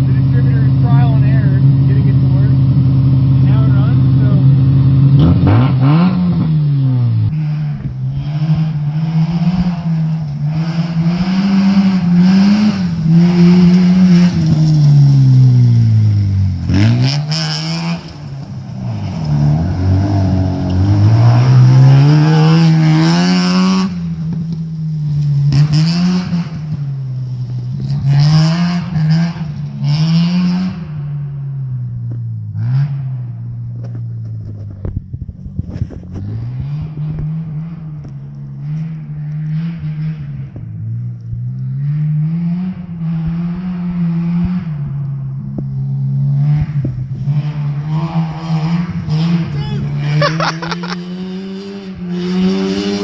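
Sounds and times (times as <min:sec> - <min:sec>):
rotary engine revving: 0:00.0 - 0:53.0.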